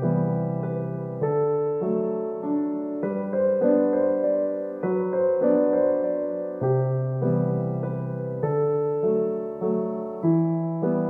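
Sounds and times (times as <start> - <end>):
piano piece: 0.0 - 11.0.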